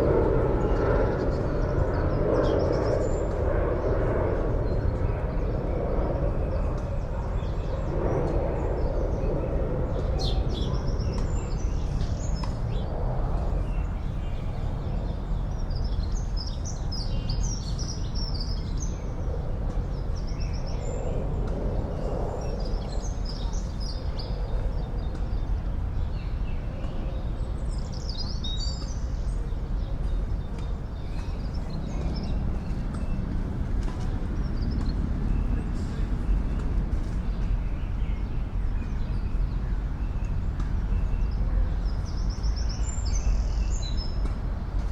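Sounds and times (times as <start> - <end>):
songbirds chirping: 0.0 - 44.9
distant city traffic drone: 6.2 - 44.9.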